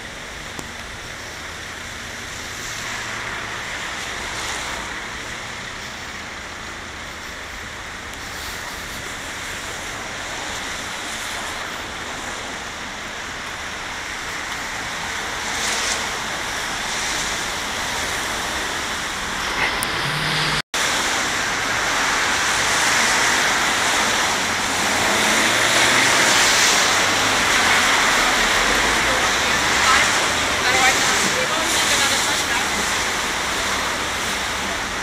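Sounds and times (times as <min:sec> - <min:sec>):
car tyres swishing on wet asphalt: 0:00.0 - 0:35.0.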